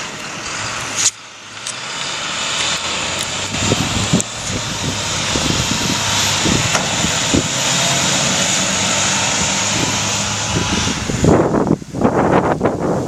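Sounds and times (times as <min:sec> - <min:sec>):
loud rushing hiss: 0:00.0 - 0:13.0
snowplow truck engine running: 0:00.0 - 0:13.0.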